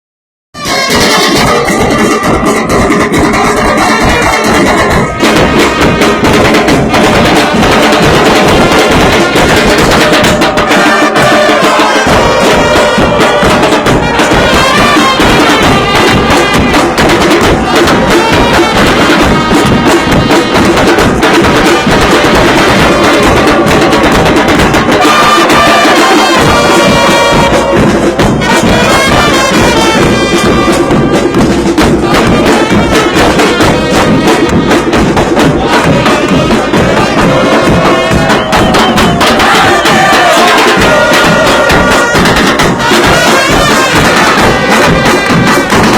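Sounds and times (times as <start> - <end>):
brass band trumpets: 0.6 - 45.9
steady drumming: 0.6 - 45.9.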